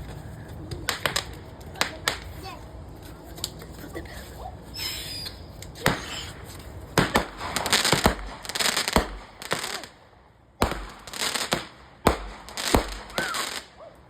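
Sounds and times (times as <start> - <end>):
fireworks bangs: 0.0 - 2.7, 4.7 - 13.9
fireworks crackling: 0.0 - 14.0.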